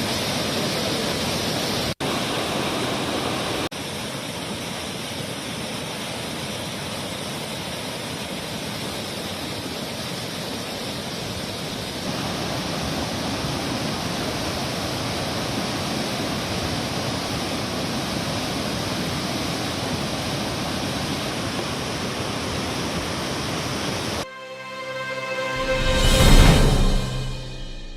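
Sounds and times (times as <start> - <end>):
river water rushing: 0.0 - 27.6.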